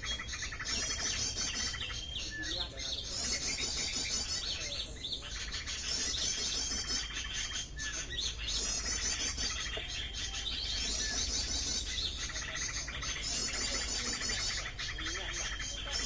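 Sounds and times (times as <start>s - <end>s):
recorded bird calls from speaker: 0.0s - 16.0s.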